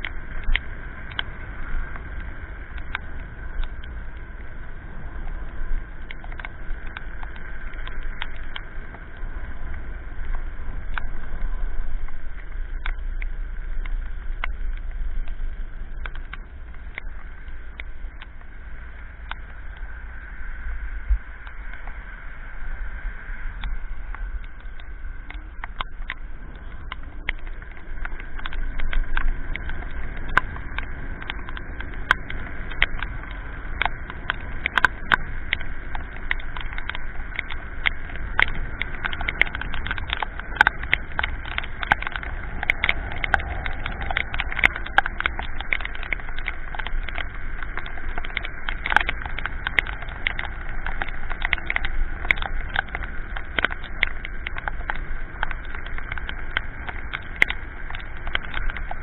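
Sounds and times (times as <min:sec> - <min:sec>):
raindrops tapping camera: 0:00.0 - 0:59.0
tyres on wet road: 0:00.0 - 0:59.0
wind noise: 0:00.0 - 0:59.0.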